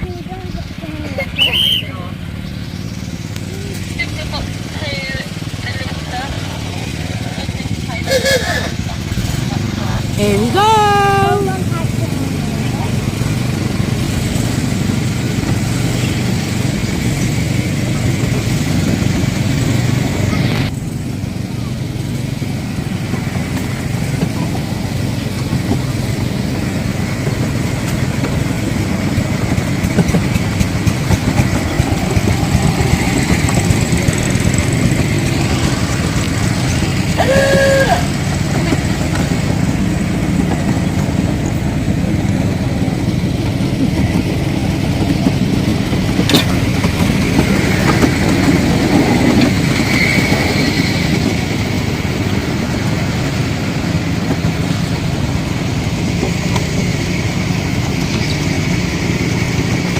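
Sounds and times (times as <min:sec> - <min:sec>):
miniature train rumbling on track: 0:00.0 - 0:59.9.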